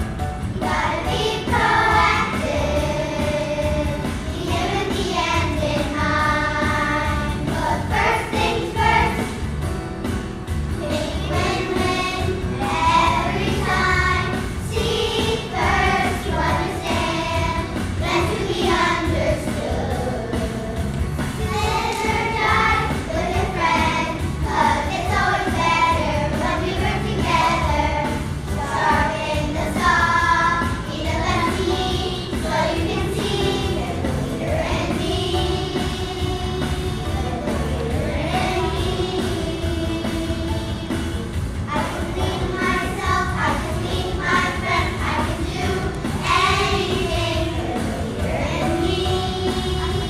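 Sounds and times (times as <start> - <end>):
children's choir singing: 0.0 - 10.1, 10.8 - 50.0
low musical accompaniment: 0.0 - 50.0.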